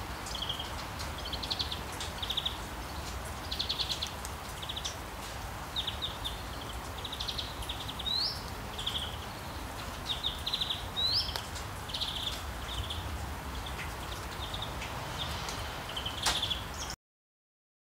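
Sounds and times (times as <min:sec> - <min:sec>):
low outdoor hiss: 0:00.0 - 0:17.0
small birds chirping trills: 0:00.2 - 0:17.0.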